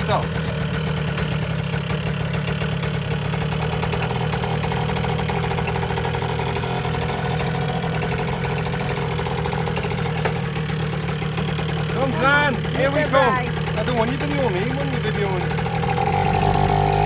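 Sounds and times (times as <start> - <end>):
motorbike engine idling: 0.0 - 17.0.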